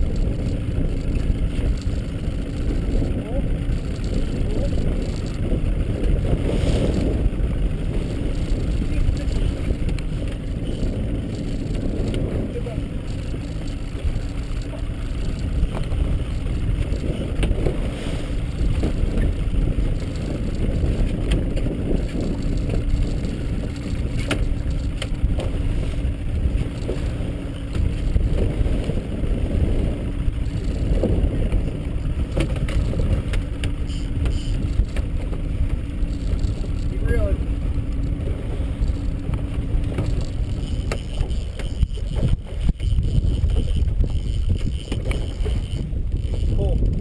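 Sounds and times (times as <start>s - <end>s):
wind and water rumble: 0.0s - 47.0s.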